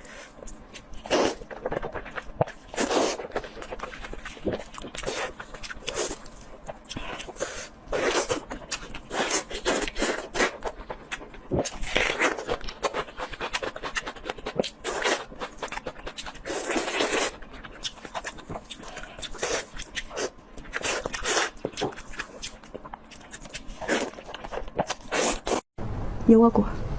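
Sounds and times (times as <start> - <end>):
wet chewing mouth sounds: 0.4 - 25.6.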